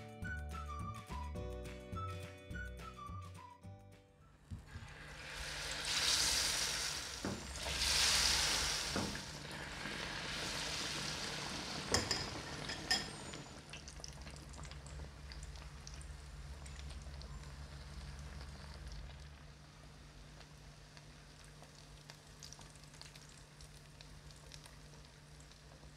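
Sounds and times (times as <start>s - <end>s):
food sizzling in hot oil: 4.7s - 25.9s.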